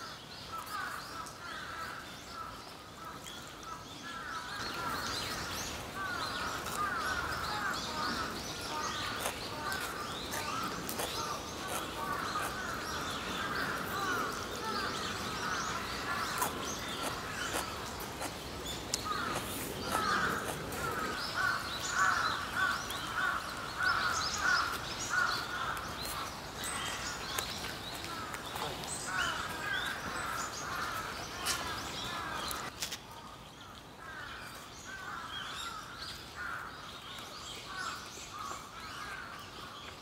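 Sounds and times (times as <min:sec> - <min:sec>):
wild birds calling: 0:00.5 - 0:32.7.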